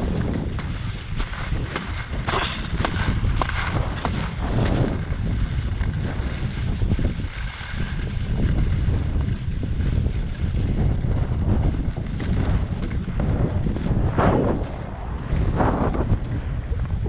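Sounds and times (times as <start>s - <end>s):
skis scraping on snow: 0.0s - 16.5s
wind rushing over microphone: 0.0s - 17.0s.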